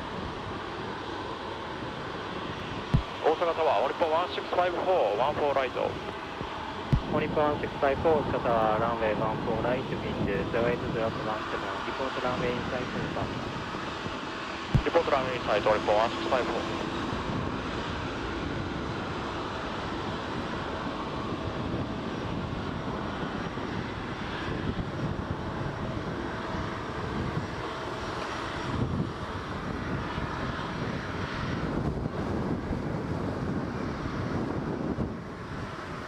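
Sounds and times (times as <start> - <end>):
jet airliner engines running: 0.0 - 36.0
wind buffeting microphone: 0.0 - 36.0.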